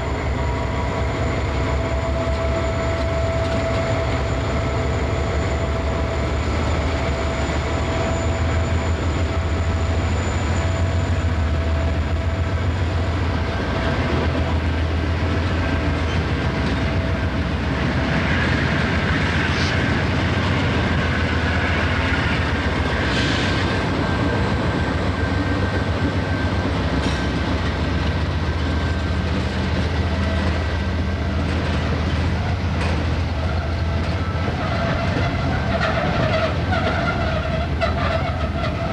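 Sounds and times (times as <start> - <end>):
freight train rolling past: 0.0 - 38.9
train wheel squeal: 0.0 - 38.9.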